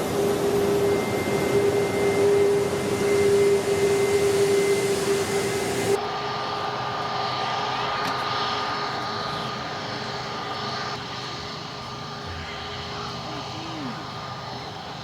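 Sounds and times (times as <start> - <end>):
airliner jet engines roaring: 0.0 - 15.0.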